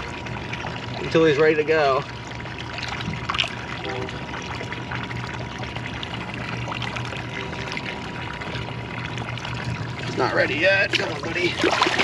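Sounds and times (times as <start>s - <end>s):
steady low hum: 0.0s - 12.0s
water sloshing and splashing: 0.0s - 12.0s.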